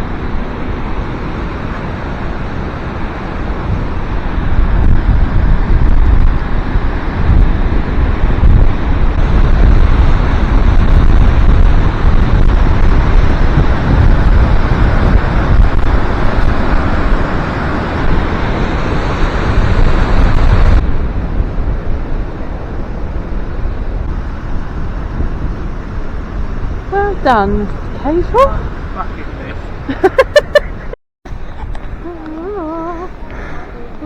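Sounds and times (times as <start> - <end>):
rushing water roar: 0.0 - 34.0
wind buffeting microphone: 0.0 - 34.0.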